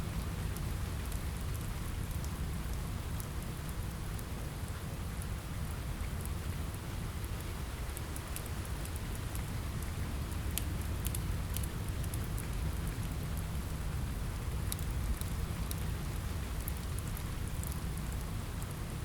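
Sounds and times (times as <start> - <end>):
steady rain: 0.0 - 19.0
wood fire crackling: 0.1 - 19.0.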